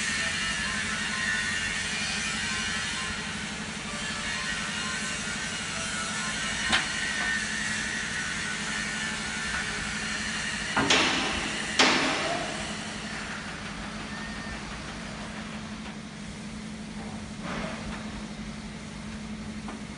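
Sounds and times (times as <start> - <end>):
hydraulic power pack humming: 0.0 - 19.9.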